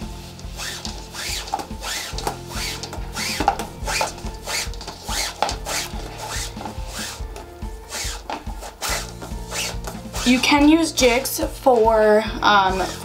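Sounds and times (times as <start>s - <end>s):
paracord swishing through hands: 0.0s - 10.7s
background music: 0.0s - 13.0s.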